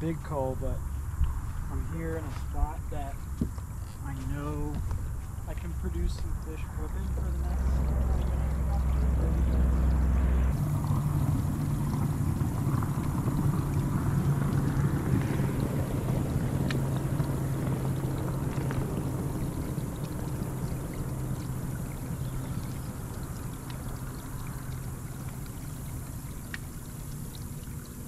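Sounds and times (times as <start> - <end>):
water washing against hull: 3.8 - 28.0.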